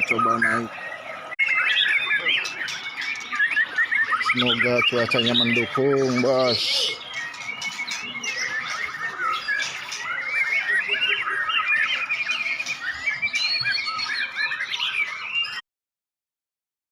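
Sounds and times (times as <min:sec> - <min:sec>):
bird singing rapid song: 0:00.0 - 0:15.6.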